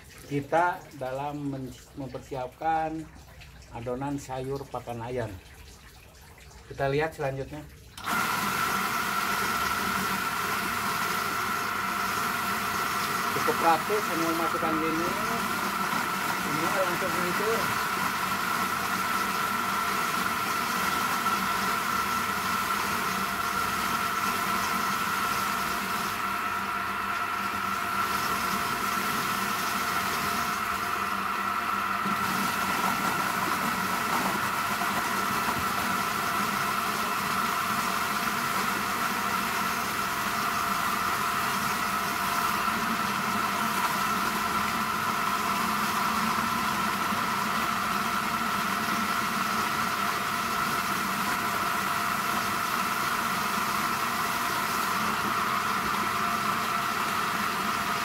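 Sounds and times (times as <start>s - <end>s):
electric vegetable chopper running: 8.0s - 58.0s.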